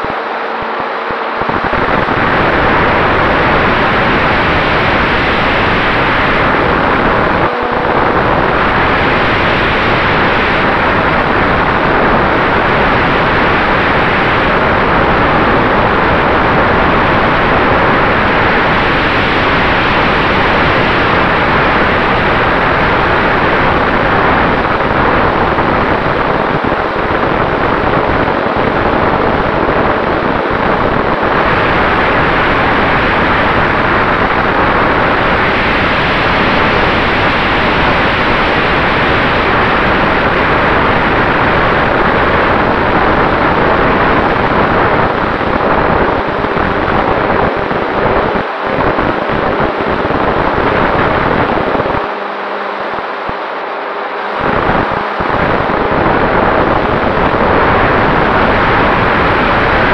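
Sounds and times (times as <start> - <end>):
airflow rushing: 0.0 - 59.9
propeller noise: 0.0 - 59.9.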